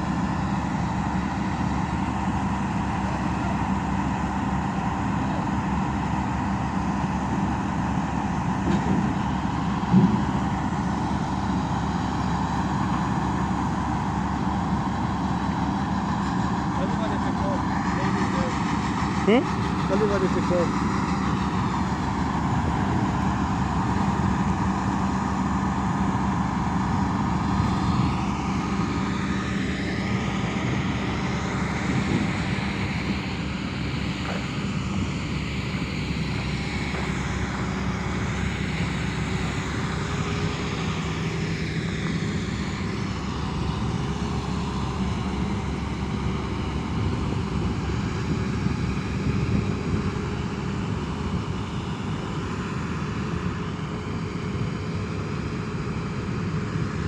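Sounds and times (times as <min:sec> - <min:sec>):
excavator diesel engine droning: 0:00.0 - 0:57.0.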